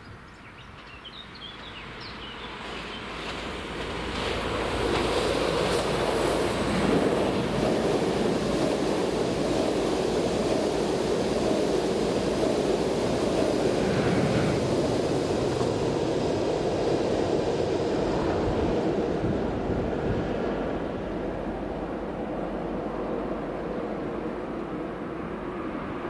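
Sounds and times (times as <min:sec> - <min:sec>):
train wheels rumbling on rails: 0:00.6 - 0:26.0.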